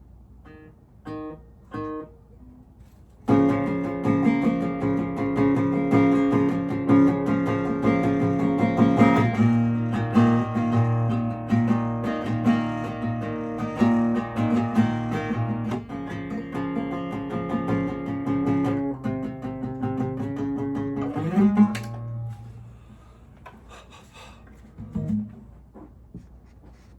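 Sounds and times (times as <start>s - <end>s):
acoustic guitar strumming chords: 0.4s - 2.2s, 3.2s - 22.8s, 24.8s - 25.4s.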